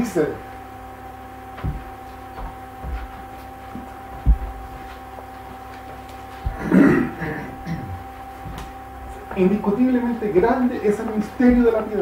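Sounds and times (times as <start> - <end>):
electrical hum: 0.0 - 12.0
soft low thumps: 1.4 - 5.7, 6.4 - 12.0.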